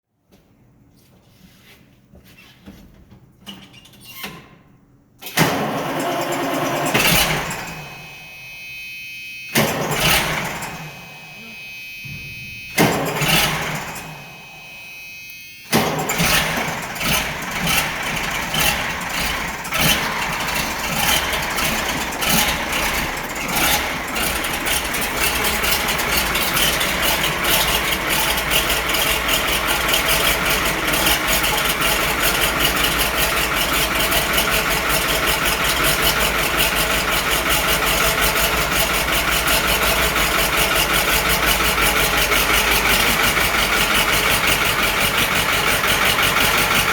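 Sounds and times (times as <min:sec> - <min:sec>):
diesel engine cranking: 0:05.2 - 0:08.2, 0:09.5 - 0:11.2, 0:11.8 - 0:46.9
tractor engine running rough: 0:05.3 - 0:08.2, 0:09.5 - 0:46.9.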